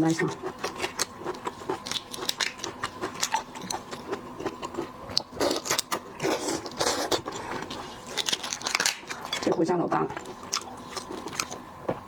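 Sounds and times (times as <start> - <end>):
shrimp shells cracking: 0.6 - 6.0, 6.6 - 11.6.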